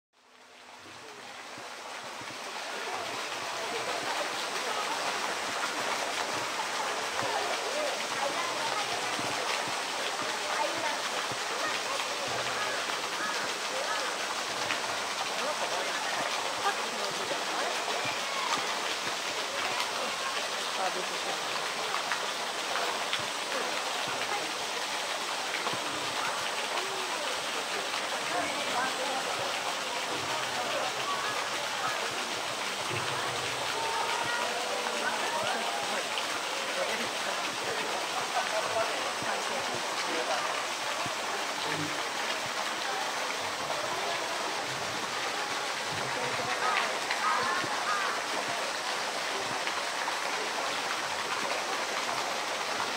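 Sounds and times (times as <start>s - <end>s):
running water rushing: 0.2s - 52.9s
faint crowd voices: 0.3s - 52.9s.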